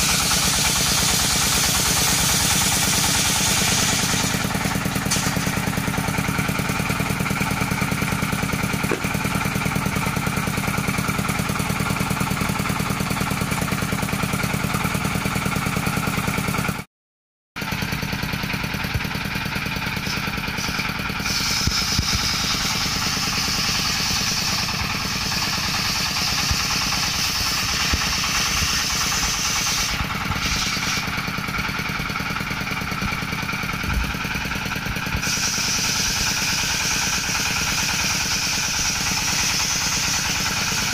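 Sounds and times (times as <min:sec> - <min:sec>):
high whine of saw blade in wood: 0:00.0 - 0:13.8, 0:19.9 - 0:40.9
saw bench engine running: 0:00.0 - 0:16.8, 0:17.6 - 0:40.9.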